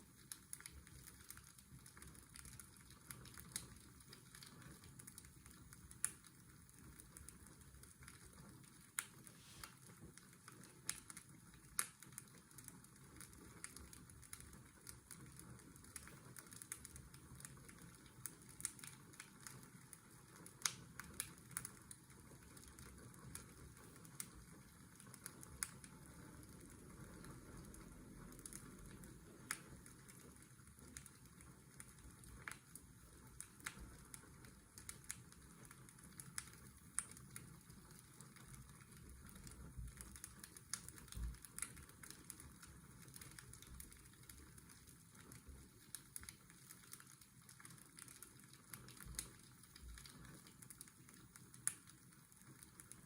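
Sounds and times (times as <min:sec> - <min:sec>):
fireplace crackling and popping: 0:00.0 - 0:53.0.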